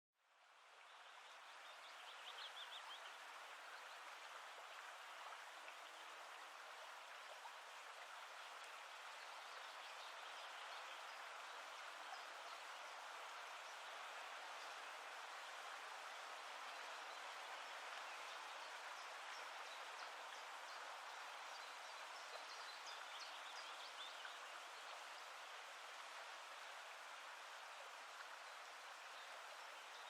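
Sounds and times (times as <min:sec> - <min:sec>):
flowing water: 0:00.2 - 0:30.0.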